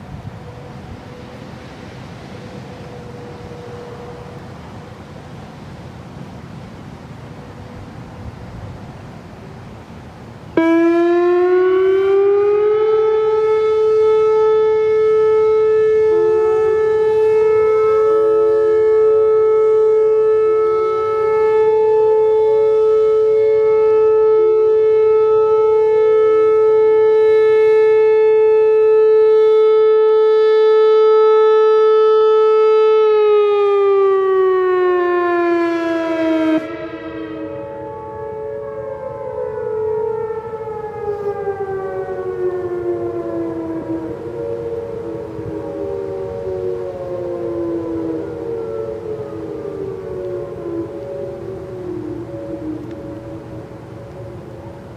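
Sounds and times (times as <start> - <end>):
outdoor warning siren steady tone: 0.0 - 54.9.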